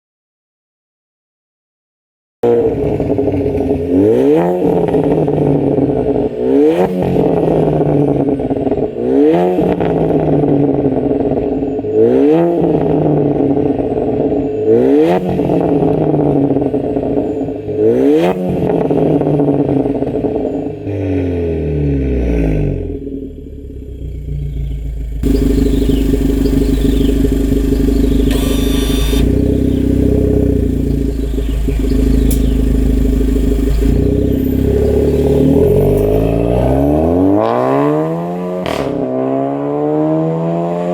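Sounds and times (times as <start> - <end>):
car engine revving: 2.4 - 40.9
engine running low and steady: 2.4 - 40.9
car engine idling: 2.7 - 21.0, 22.4 - 37.4.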